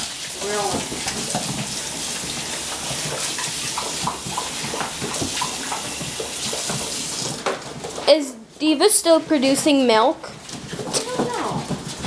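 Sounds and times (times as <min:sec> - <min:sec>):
dogs lapping and slurping: 0:00.0 - 0:12.0.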